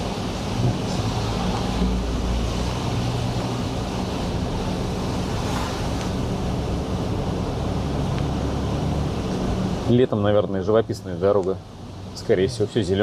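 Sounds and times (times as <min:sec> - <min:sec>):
low engine hum: 0:00.0 - 0:13.0
tyre noise on wet road: 0:00.0 - 0:13.0.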